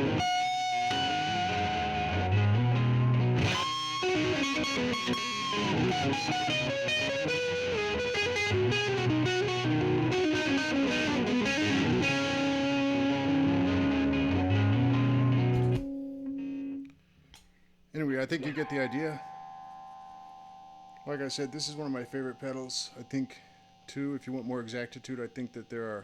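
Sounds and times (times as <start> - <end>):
electric guitar lead line: 0.0 - 16.9, 18.3 - 24.5
looped electric guitar riff: 0.0 - 17.0, 18.3 - 26.0.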